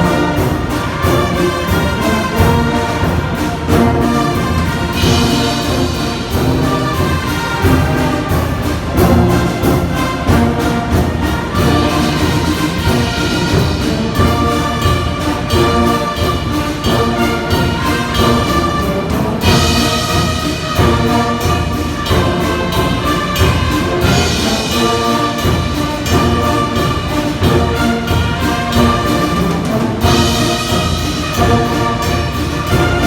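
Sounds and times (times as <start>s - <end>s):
brass band playing: 0.0s - 33.0s
percussion beat: 0.0s - 33.0s.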